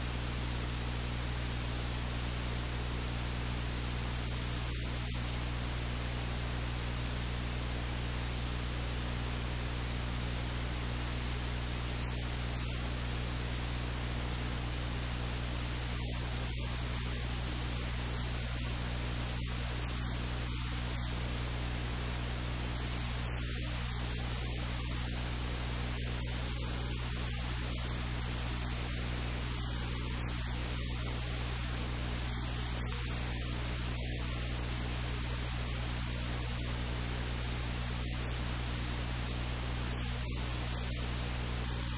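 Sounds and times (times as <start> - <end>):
low electrical hum: 0.0 - 41.9
steady hiss: 0.0 - 41.9.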